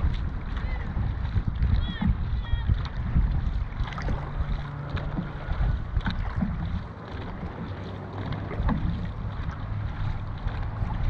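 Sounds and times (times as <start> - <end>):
paddles pulling through water: 0.0 - 11.0
sharp water splashes: 0.0 - 11.0
wind rumble on microphone: 0.0 - 11.0.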